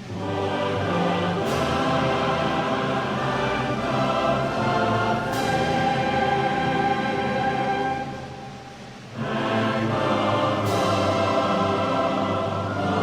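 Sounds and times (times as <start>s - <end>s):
choir singing held chords: 0.0s - 13.0s
orchestra: 0.0s - 13.0s.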